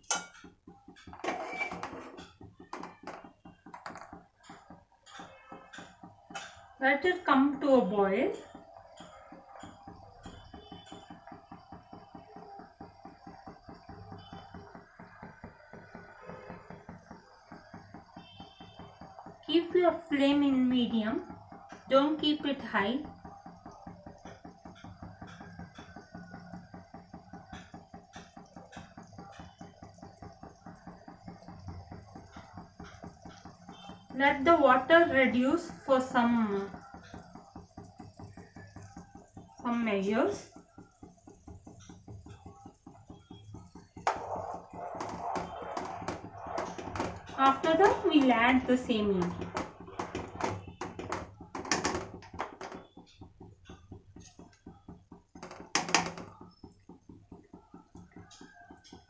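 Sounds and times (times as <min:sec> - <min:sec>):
liquid popping while heating: 0:00.0 - 0:59.0
water bubbling in a pot: 0:00.0 - 0:59.0.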